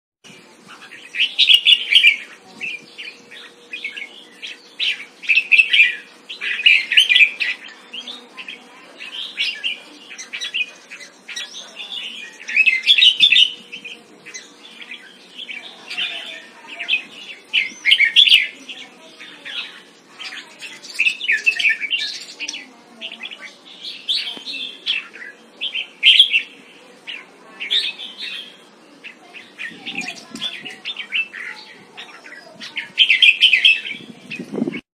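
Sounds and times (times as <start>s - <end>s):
bulbul singing warbled phrases: 0.3s - 34.8s.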